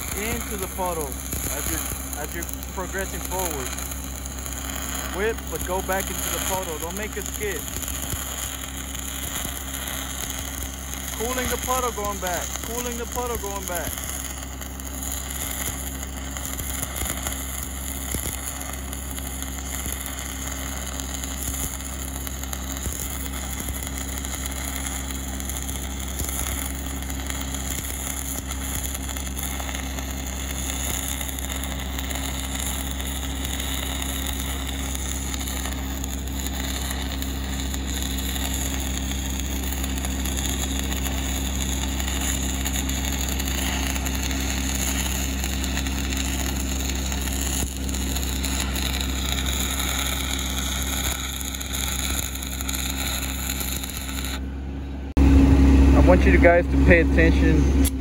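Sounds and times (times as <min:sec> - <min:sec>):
engine-like hum: 0:00.0 - 0:58.0
welding arc crackling and sizzling: 0:00.0 - 0:58.0.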